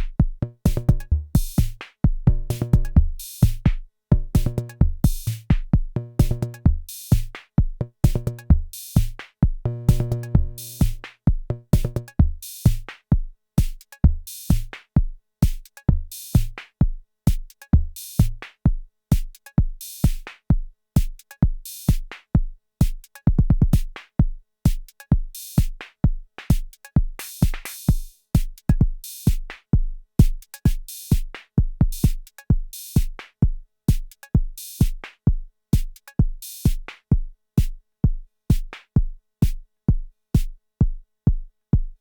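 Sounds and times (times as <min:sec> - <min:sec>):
drum machine kick pattern: 0:00.0 - 0:42.0.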